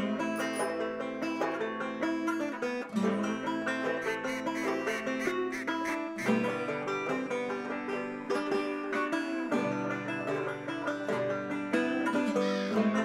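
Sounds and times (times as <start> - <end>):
bluegrass music with banjo and guitar: 0.0 - 13.0.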